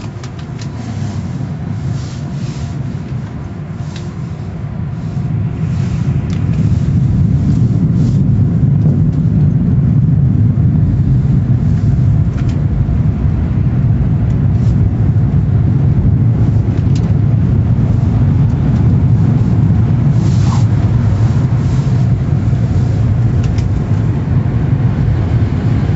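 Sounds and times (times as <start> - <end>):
machinery rumbling: 0.0 - 25.9.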